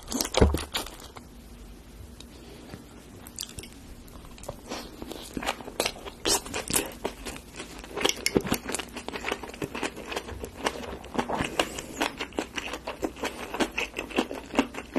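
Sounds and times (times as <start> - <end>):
wet chewing and crunching: 0.0 - 1.3, 3.2 - 14.9.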